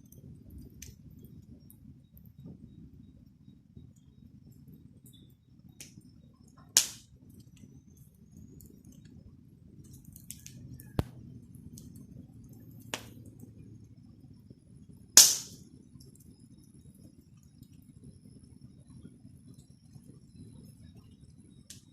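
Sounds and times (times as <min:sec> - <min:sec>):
rumble of flames: 0:00.0 - 0:21.9
wood popping in fire: 0:00.0 - 0:21.9.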